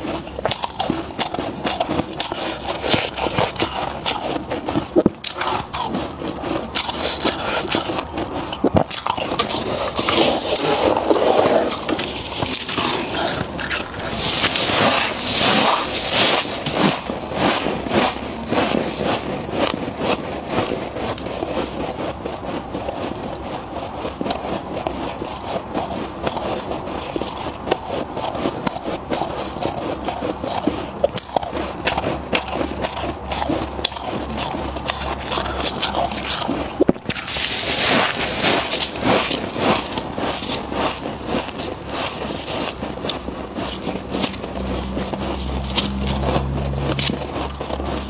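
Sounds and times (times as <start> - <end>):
crunching frost: 0.0 - 48.0
frost scraping: 0.0 - 48.0.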